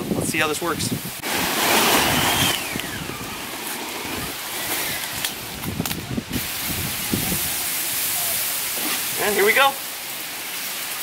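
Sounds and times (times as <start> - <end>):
wind hiss on microphone: 0.0 - 11.0.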